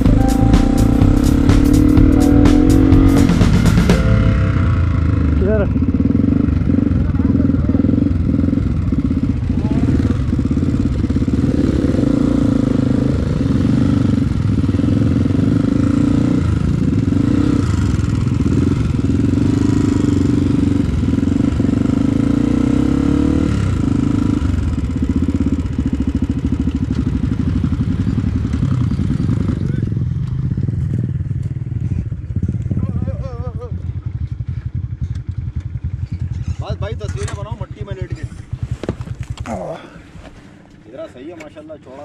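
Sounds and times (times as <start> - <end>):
motorcycle engine at low speed: 1.1 - 40.8.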